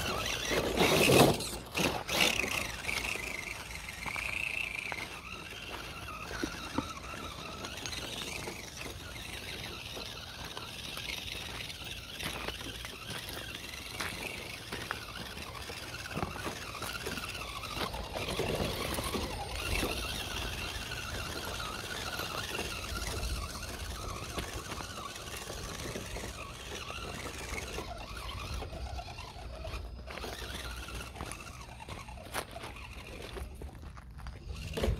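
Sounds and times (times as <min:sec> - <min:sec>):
electric motor whine: 0:00.0 - 0:34.9.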